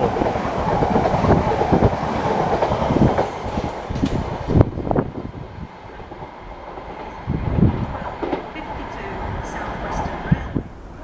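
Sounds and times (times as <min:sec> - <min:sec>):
train wheels clattering over rail joints: 0:00.0 - 0:10.4.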